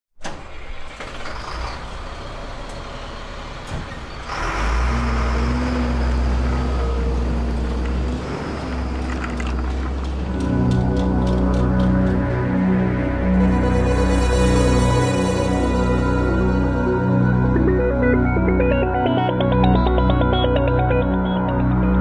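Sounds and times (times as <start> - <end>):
heavy truck engine running: 0.2 - 22.0.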